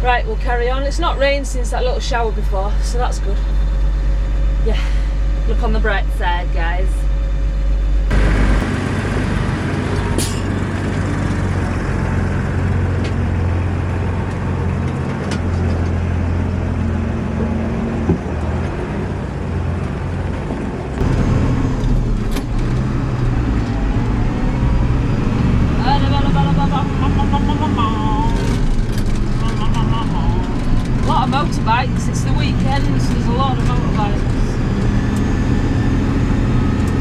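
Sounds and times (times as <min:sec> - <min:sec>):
tractor engine droning: 0:00.0 - 0:37.0.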